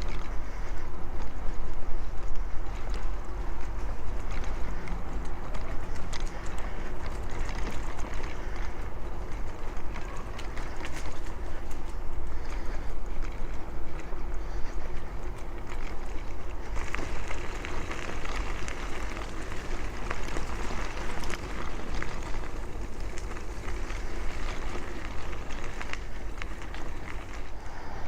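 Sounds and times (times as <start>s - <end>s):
light bicycle clicks and rattles: 0.0s - 28.0s
tyres rumbling on road: 0.0s - 28.0s.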